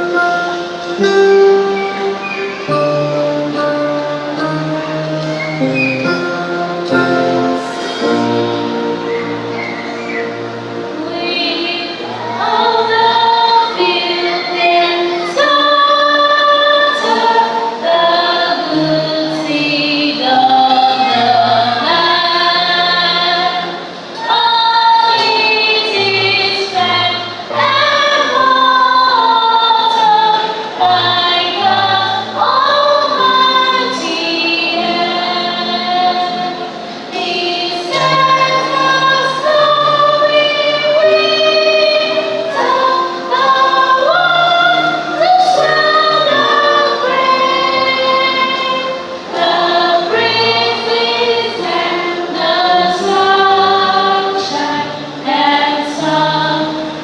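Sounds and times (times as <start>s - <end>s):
choir singing gospel: 0.0s - 57.0s
instrumental accompaniment with bass: 0.0s - 57.0s.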